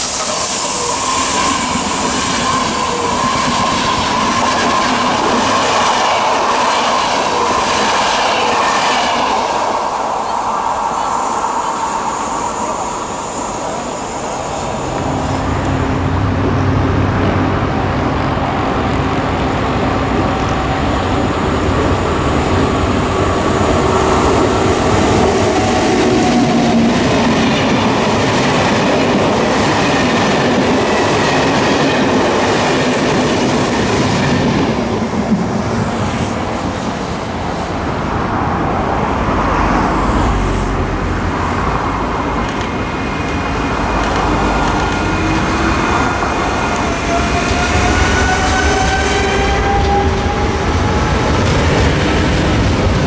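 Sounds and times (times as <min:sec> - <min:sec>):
electric train whine: 0:00.0 - 0:53.0
train wheels on rails: 0:00.0 - 0:53.0.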